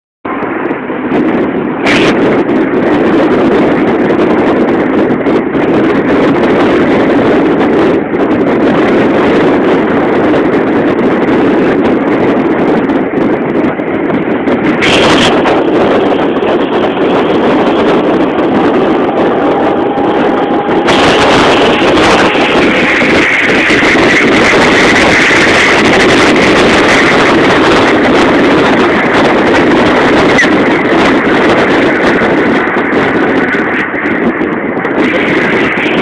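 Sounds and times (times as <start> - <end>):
wind buffeting microphone: 0.2 - 36.0
car driving rushing noise: 0.3 - 36.0.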